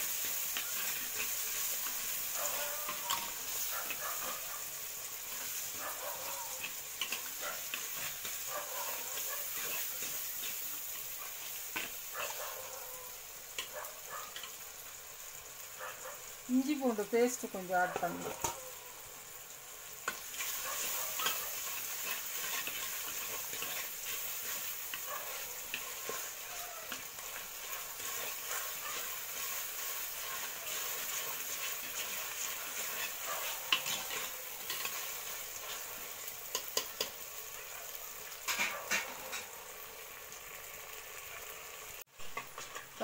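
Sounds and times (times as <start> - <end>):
onions and tomatoes sizzling in oil: 0.0 - 43.0.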